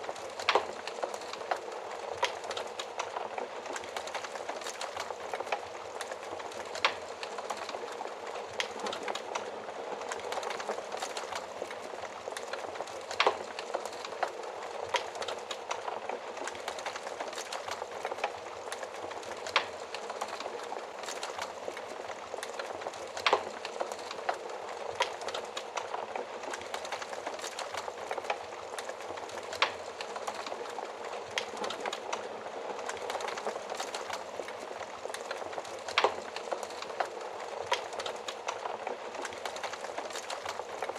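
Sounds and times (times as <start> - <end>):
wood fire burning in an oven: 0.0 - 40.9.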